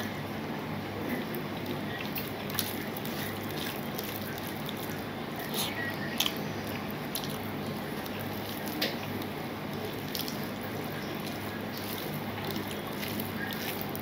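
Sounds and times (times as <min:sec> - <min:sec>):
wet squishing of rice: 0:00.8 - 0:14.0.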